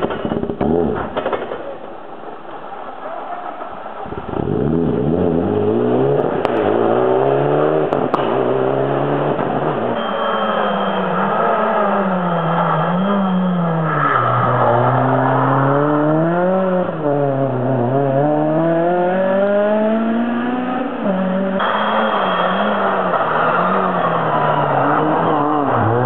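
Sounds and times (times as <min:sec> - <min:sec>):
racing car engine revving: 0:04.0 - 0:26.0.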